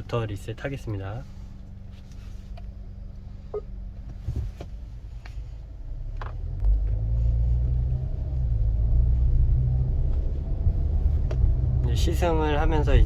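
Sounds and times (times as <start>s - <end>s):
car engine rumble in cabin: 0.0s - 13.0s.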